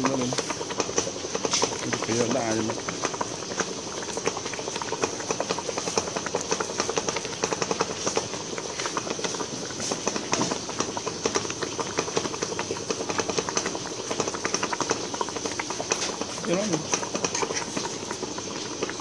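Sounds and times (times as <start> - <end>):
steady high-pitched hiss: 0.0 - 19.0
water boiling with rapid pops: 0.0 - 19.0.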